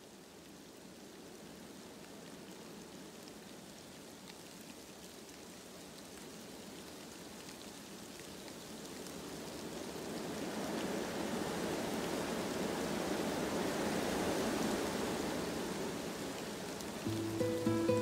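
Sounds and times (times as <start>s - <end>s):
rain-like rushing hiss: 0.0s - 18.0s.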